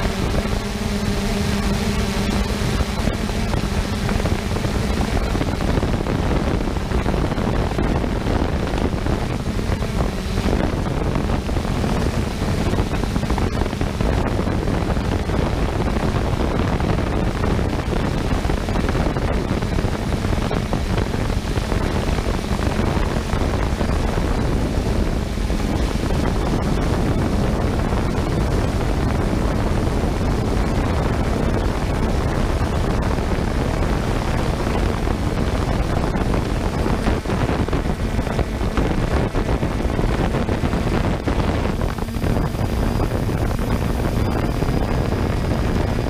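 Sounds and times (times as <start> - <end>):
low steady hum: 0.0 - 46.0
wind rushing over microphone: 0.0 - 46.0.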